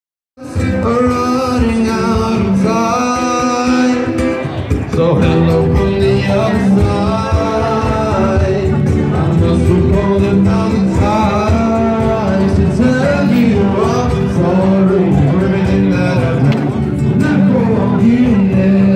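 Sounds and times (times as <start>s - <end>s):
guitar: 0.4s - 18.9s
person singing: 0.4s - 18.9s.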